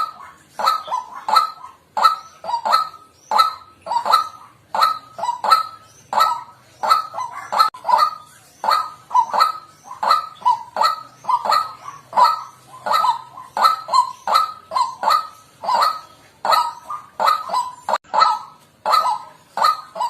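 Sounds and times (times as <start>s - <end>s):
bird honking calls: 0.0s - 20.0s.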